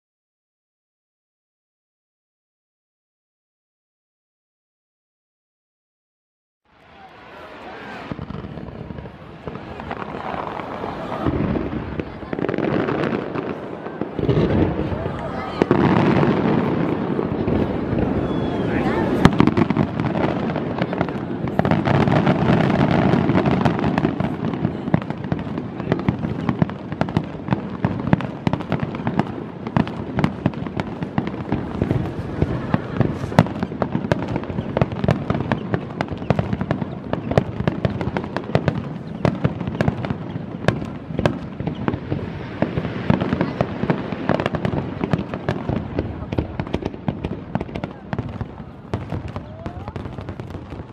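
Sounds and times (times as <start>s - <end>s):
fireworks bursting: 6.8s - 50.9s.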